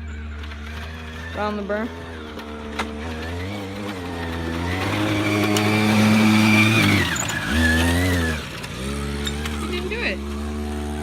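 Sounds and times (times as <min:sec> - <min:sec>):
small motorbike engine revving: 0:00.0 - 0:11.0.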